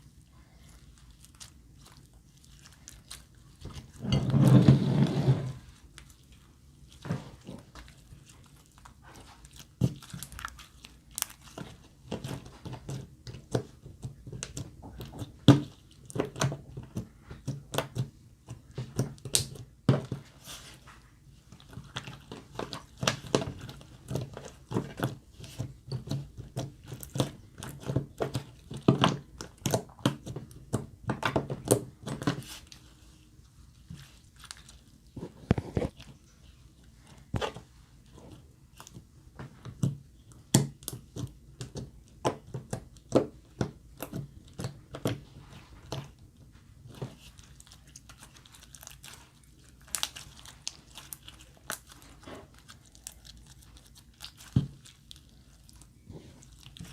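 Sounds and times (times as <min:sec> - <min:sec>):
slime squishing with wet pops: 0:00.0 - 0:04.0, 0:05.6 - 0:56.9.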